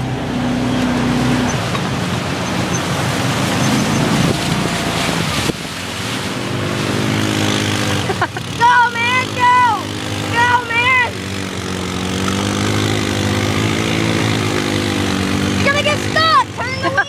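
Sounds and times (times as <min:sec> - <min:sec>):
mud and water splashing: 0:00.0 - 0:17.0
off-road vehicle engine revving: 0:00.0 - 0:17.0.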